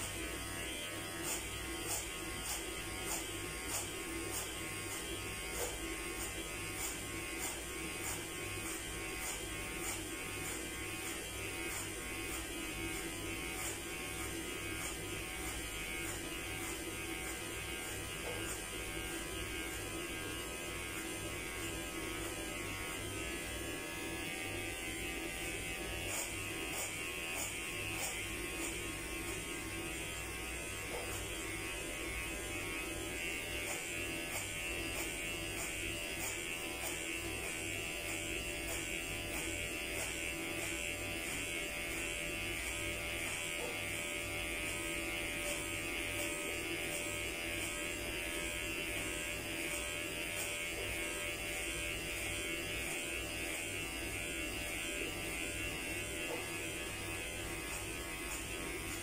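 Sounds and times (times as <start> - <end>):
electric hair clippers running: 0.0 - 59.0.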